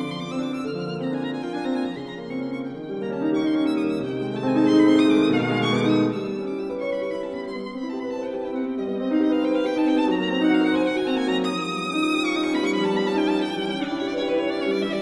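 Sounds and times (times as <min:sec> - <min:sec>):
bowed strings music: 0:00.0 - 0:15.0
violin playing slow notes: 0:00.0 - 0:15.0.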